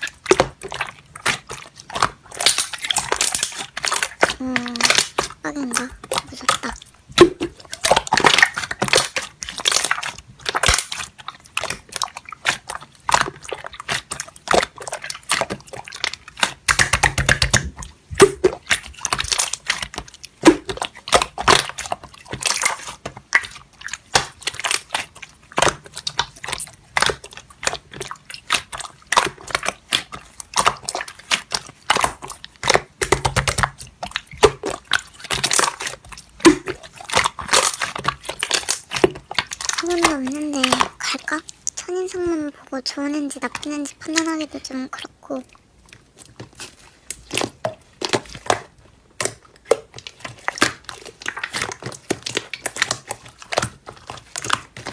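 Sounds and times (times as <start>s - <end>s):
slime squeezed by hand: 0.0s - 54.9s.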